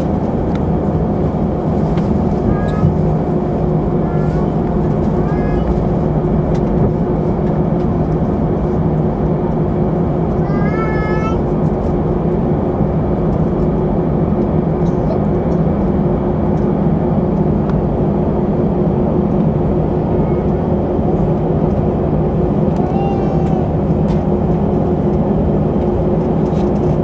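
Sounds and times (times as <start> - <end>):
airliner cabin engine hum: 0.0 - 27.0.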